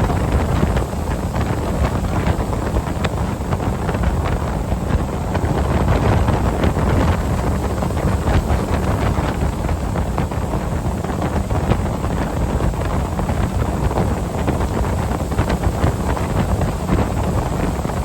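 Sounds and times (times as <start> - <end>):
water rushing under boat: 0.0 - 18.0
wind buffeting microphone: 0.0 - 18.0.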